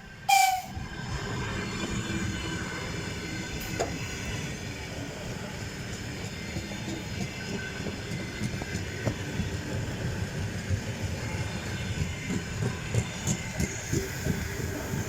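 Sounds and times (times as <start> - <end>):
train wheels clattering on track: 0.3 - 15.0.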